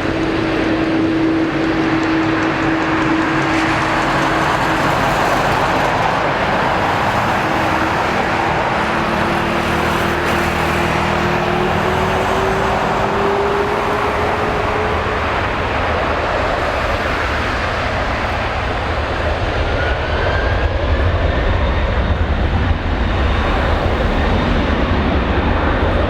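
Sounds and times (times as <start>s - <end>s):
jet engines roaring at takeoff: 0.0s - 26.0s.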